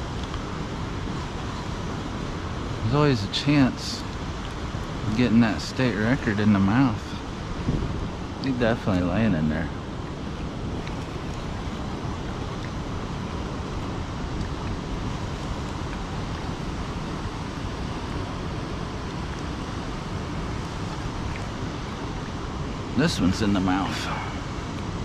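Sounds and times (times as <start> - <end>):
water rushing over a spillway: 0.0 - 25.0.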